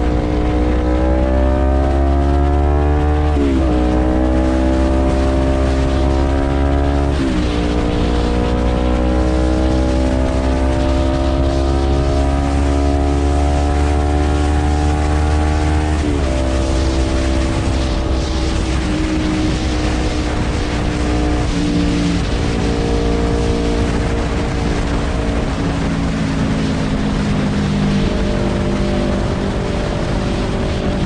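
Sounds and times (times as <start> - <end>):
motorcycle engine exhaust note: 0.0 - 31.0.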